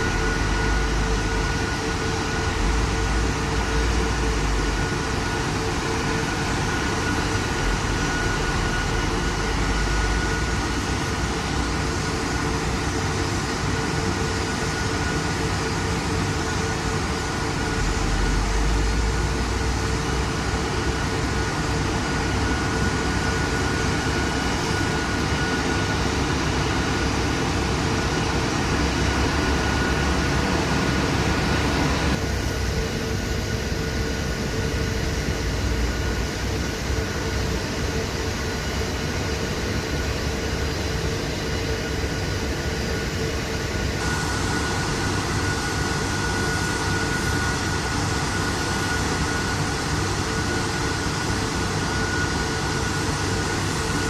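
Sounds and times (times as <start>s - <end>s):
constant hum tones: 0.0s - 54.0s
gas roar and hiss: 0.0s - 54.0s.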